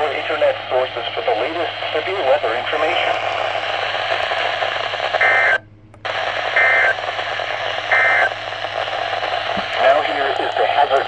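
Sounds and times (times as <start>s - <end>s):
radio receiver hiss: 0.0s - 11.0s.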